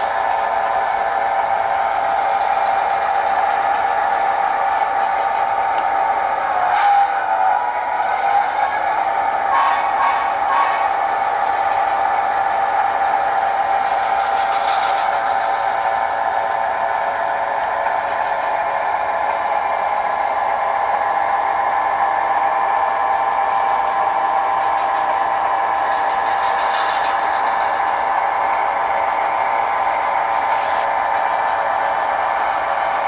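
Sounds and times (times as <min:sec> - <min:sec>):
model train running on track: 0:00.0 - 0:33.0.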